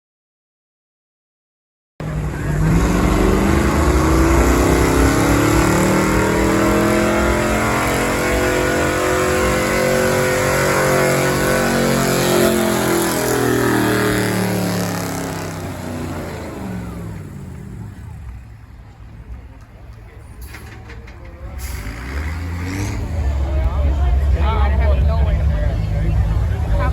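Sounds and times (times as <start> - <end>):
truck engine at full throttle: 2.0 - 26.9.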